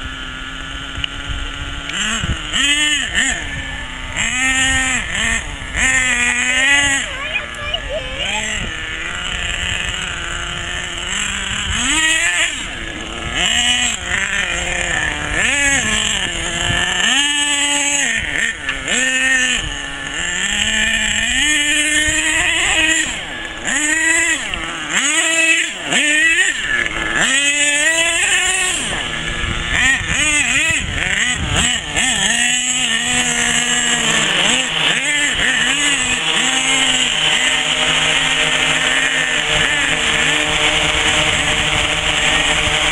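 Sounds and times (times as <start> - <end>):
small nitro engine revving: 0.0 - 42.9.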